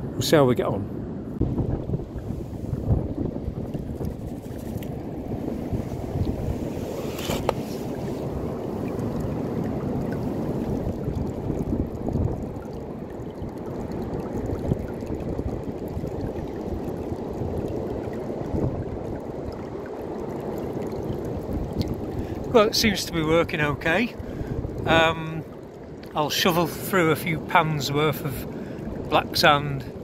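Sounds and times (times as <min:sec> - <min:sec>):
stream water running through sluice: 0:03.6 - 0:30.0.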